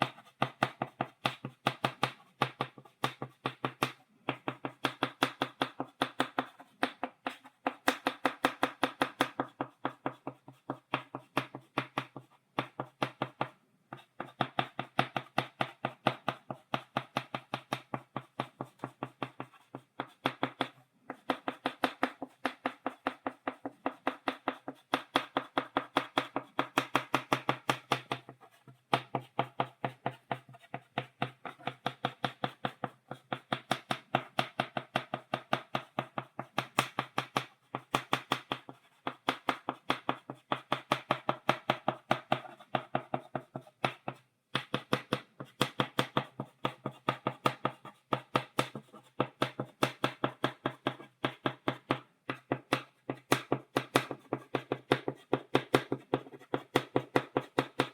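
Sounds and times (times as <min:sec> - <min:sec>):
chalk tapping on blackboard: 0:00.0 - 0:57.9.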